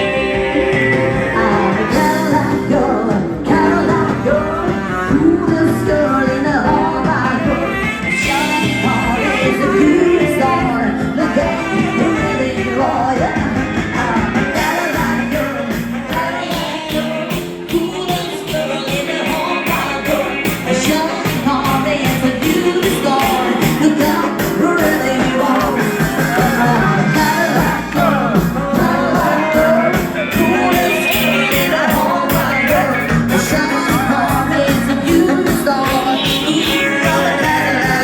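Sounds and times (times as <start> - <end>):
rock and roll dance music: 0.0 - 38.0.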